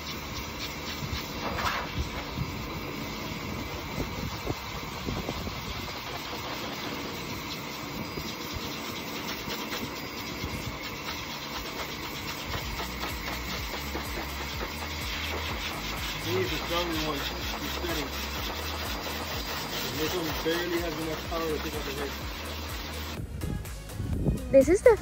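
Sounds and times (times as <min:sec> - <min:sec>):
vacuum motor humming: 0:00.0 - 0:23.3.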